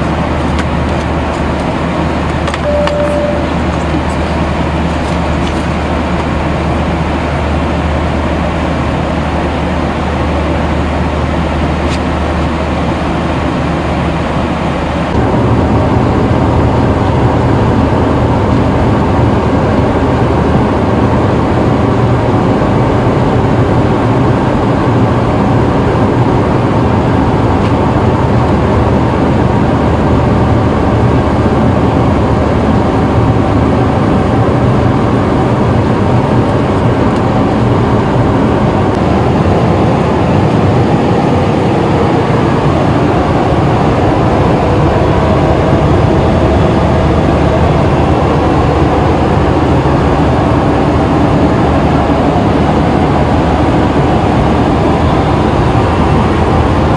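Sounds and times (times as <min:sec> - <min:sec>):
jet engine cabin drone: 0:00.0 - 0:56.9.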